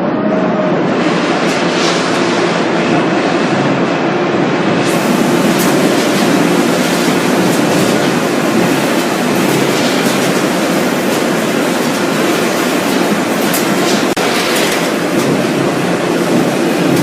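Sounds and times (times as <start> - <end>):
production line machinery running: 0.0 - 17.0.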